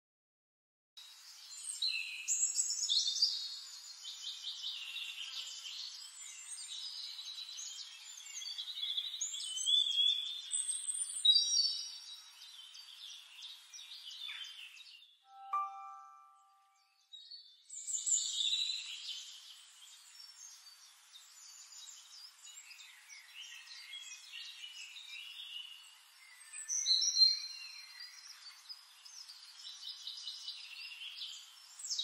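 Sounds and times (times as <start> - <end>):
songbirds singing: 1.1 - 32.0.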